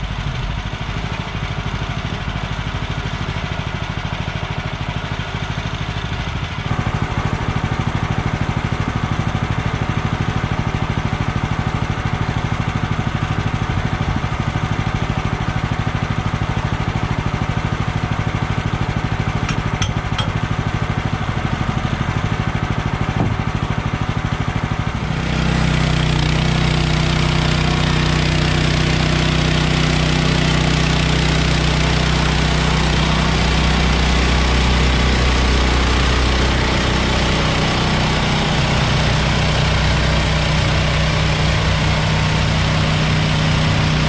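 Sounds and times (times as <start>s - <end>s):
small gasoline engine running: 0.0s - 44.0s.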